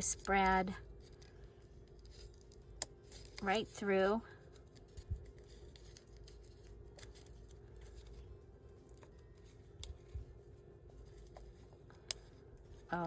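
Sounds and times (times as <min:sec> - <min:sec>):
paper and card handling: 0:00.0 - 0:13.0
small clicks and scratches: 0:00.0 - 0:13.0.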